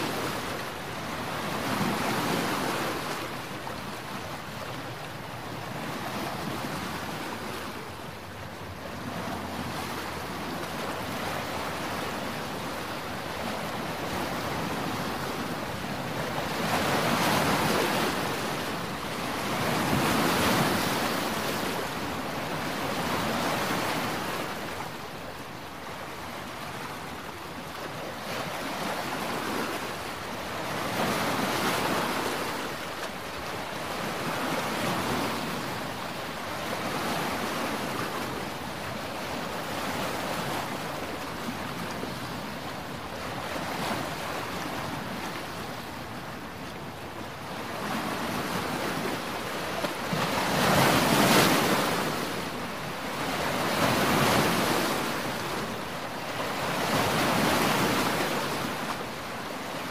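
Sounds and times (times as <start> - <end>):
waves washing onto rocky shore: 8.8 - 59.9.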